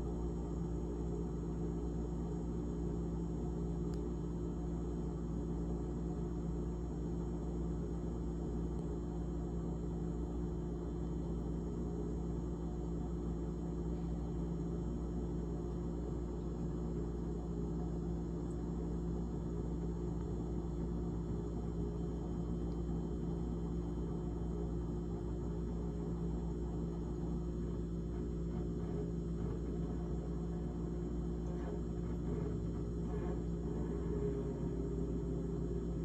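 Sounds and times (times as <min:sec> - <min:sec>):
refrigerator humming: 0:00.0 - 0:36.0.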